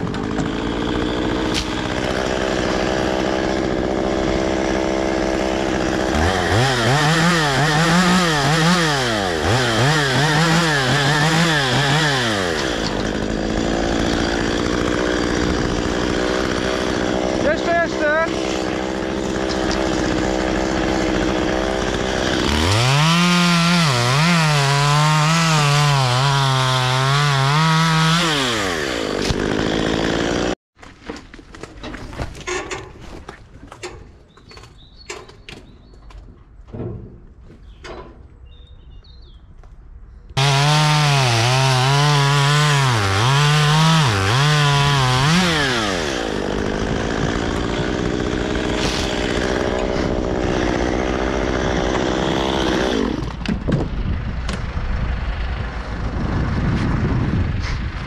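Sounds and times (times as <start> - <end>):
chainsaw cutting wood: 0.0 - 33.2, 40.4 - 54.8.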